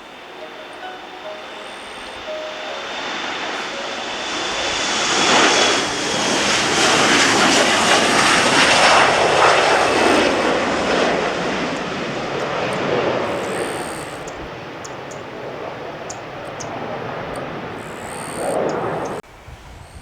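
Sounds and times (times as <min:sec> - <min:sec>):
jet engines roaring at takeoff: 0:00.0 - 0:19.5.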